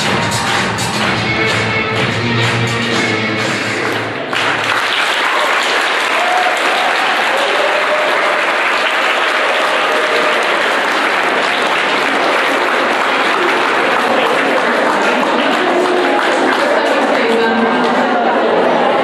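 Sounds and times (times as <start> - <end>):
children applauding: 0.0 - 1.3, 3.6 - 18.2.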